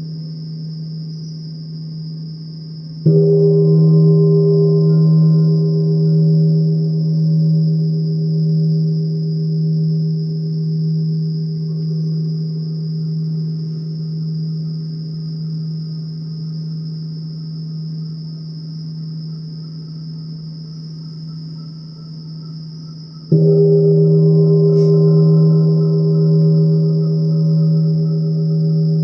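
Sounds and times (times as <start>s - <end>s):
deep metal singing bowl ringing: 0.0s - 29.0s
steady high ringing tone: 0.0s - 29.0s.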